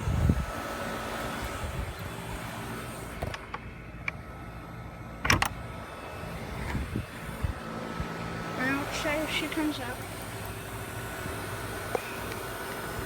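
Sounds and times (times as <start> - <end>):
air conditioner unit humming: 0.0 - 13.0.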